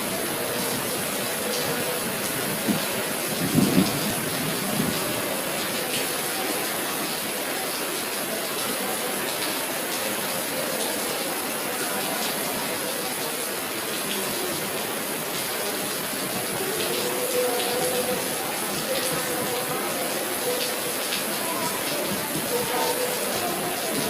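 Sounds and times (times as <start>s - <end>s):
running water rushing: 0.0s - 24.0s.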